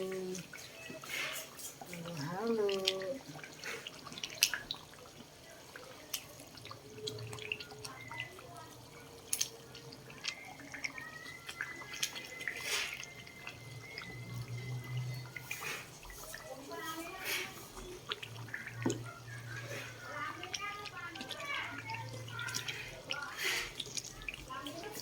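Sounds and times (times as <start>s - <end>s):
oil popping and clicking: 0.0s - 25.0s.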